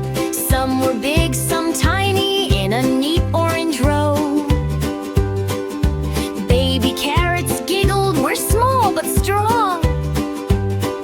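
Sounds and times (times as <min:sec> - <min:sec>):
upbeat children's song: 0:00.0 - 0:11.0.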